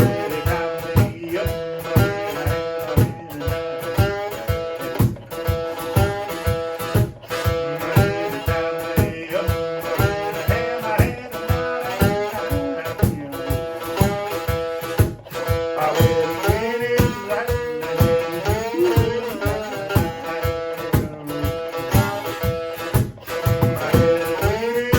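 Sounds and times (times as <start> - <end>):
cajon beat: 0.0 - 24.9
sliding guitar blues line: 0.0 - 24.9.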